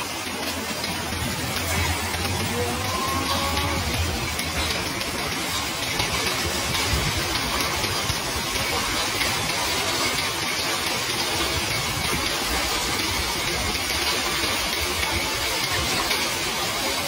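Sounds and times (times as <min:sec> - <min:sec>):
hail and rain on pavement: 0:00.0 - 0:17.0.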